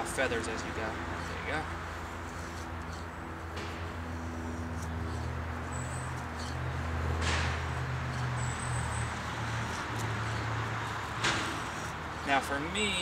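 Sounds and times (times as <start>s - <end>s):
knife scraping wood: 0.0s - 13.0s
steady low hum: 0.0s - 13.0s.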